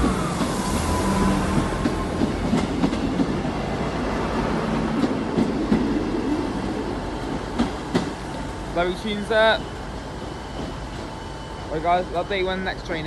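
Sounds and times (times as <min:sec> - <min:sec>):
train wheel rumble: 0:00.0 - 0:13.0.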